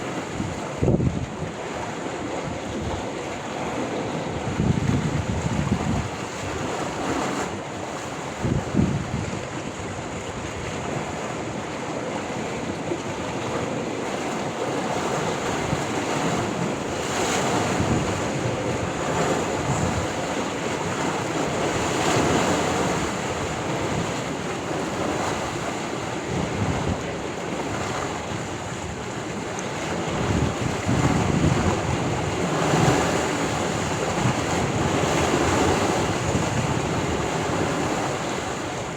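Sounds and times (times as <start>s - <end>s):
sea waves washing on shore: 0.0s - 38.9s
wind buffeting microphone: 0.0s - 38.9s.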